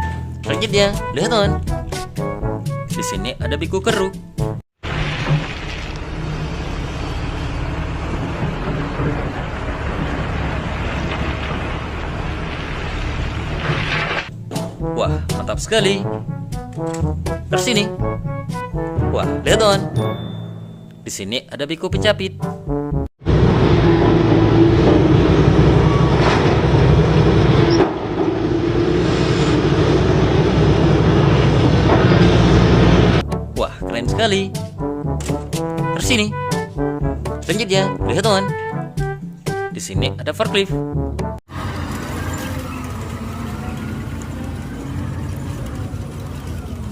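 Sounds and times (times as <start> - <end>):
engine rumbling: 4.2 - 21.2, 22.2 - 46.9.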